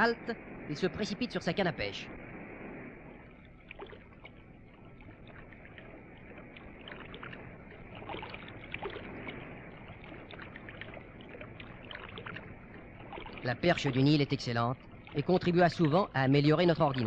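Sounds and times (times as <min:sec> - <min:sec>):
river water: 0:00.0 - 0:17.0
small splashes and clicks: 0:03.2 - 0:17.0.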